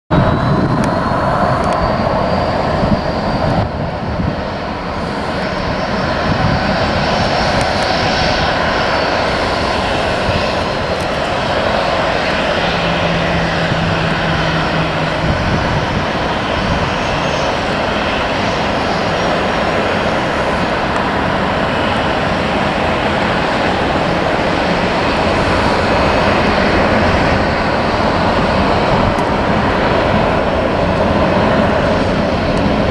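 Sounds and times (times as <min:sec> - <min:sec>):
jet engines running: 0:00.1 - 0:32.9.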